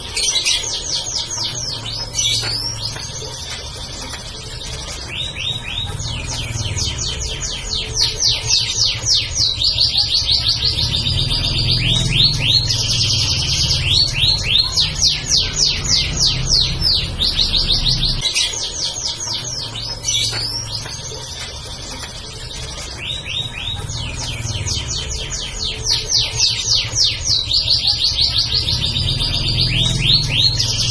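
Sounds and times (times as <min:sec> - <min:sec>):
canary singing: 0:00.0 - 0:30.9.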